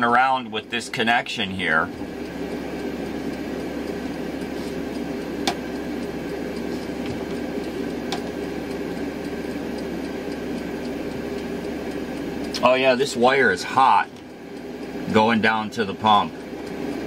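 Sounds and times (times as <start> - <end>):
water pump droning: 0.0 - 17.0.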